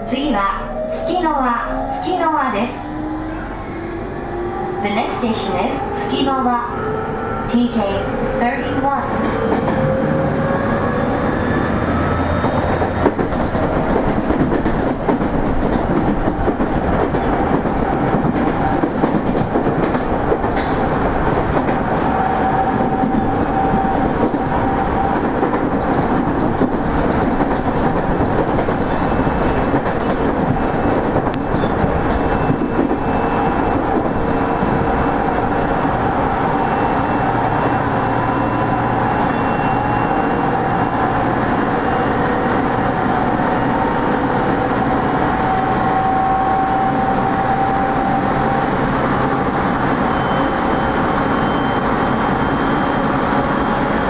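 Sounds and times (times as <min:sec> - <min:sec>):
train wheels clickety-clack on rails: 0:04.6 - 0:54.0.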